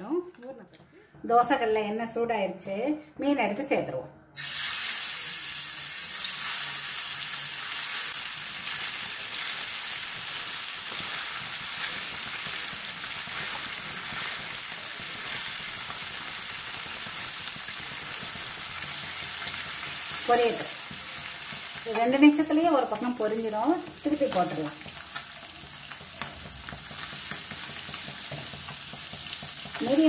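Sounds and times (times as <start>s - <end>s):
fish sizzling in hot oil: 4.4s - 30.0s.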